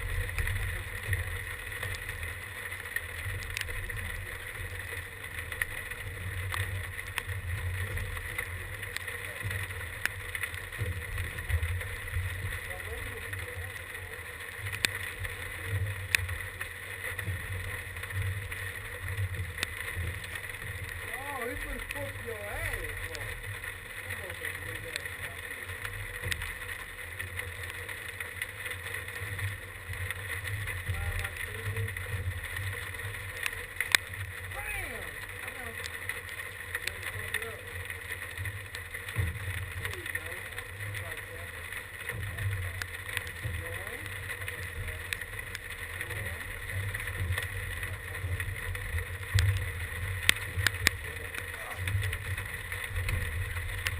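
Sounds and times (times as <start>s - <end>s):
sharp ticks: 0.1s - 53.9s.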